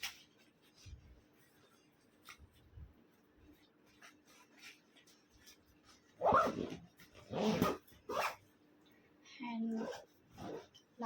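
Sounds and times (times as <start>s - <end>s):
rustling of items in a bag: 0.0s - 8.9s.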